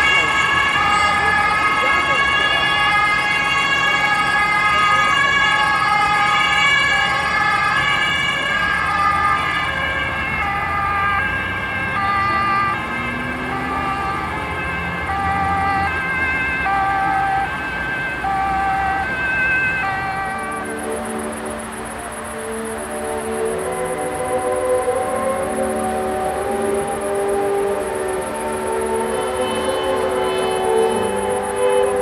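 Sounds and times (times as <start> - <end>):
road traffic: 0.0 - 32.0
two-tone emergency siren: 0.0 - 32.0.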